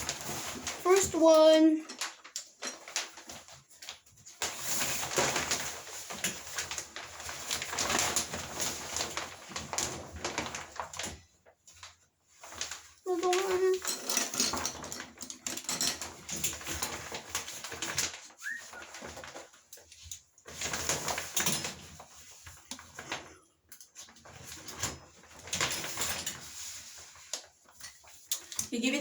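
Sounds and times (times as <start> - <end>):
plastic rustling: 0.0 - 29.0.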